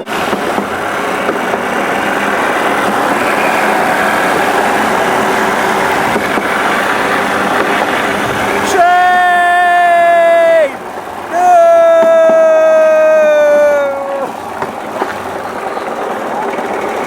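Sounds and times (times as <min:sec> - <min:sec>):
small motorbike engine running: 0:00.0 - 0:17.0
trolley rolling on rails: 0:00.0 - 0:17.0.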